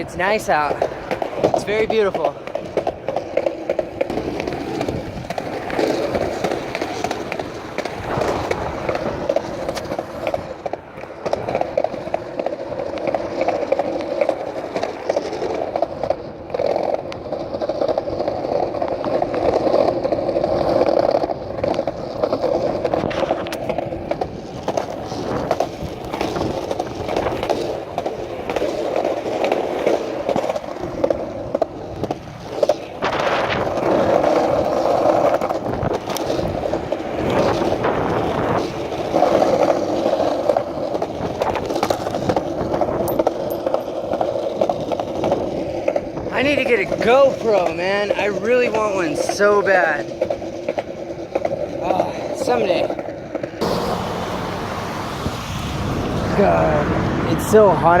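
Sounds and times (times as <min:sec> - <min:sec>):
skateboard wheels rolling on pavement: 0:00.0 - 0:58.0.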